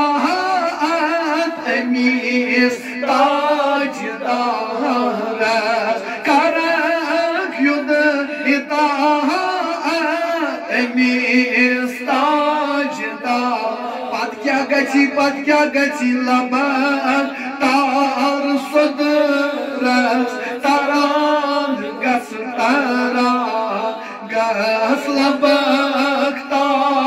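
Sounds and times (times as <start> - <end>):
men singing devotional song: 0.0 - 27.0.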